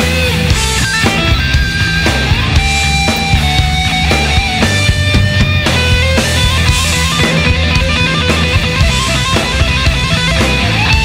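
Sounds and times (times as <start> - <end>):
distorted rock guitar: 0.0 - 11.0
steady drum beat: 0.0 - 11.0.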